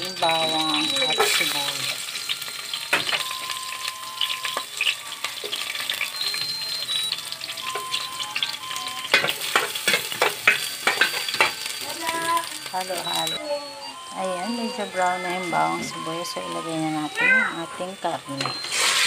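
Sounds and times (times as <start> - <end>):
garlic and onion sizzling in oil: 0.0 - 19.0.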